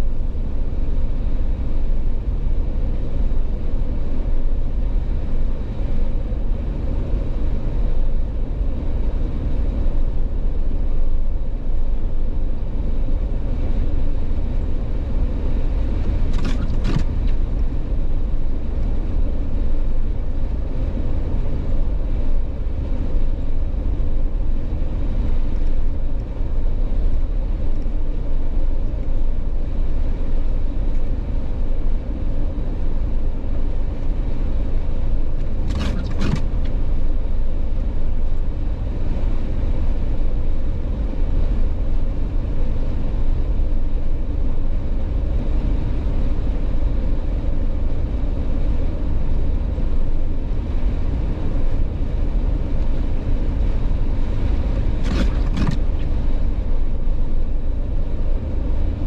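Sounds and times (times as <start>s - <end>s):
car driving at road speed: 0.0s - 59.0s.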